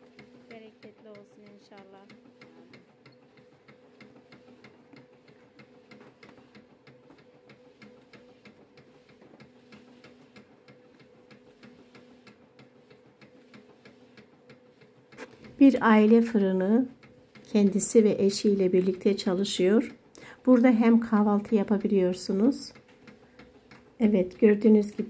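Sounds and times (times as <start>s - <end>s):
machine humming and ticking: 0.0s - 25.0s.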